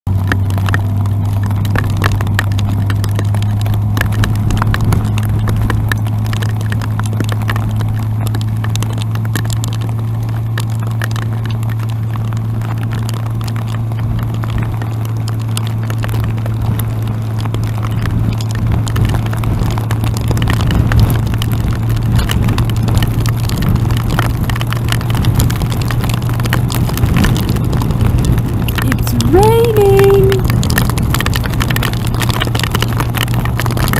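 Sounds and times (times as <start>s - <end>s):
motorcycle engine cruising: 0.1s - 33.9s
rain ticking on microphone: 0.1s - 33.9s
wind noise: 0.1s - 33.9s.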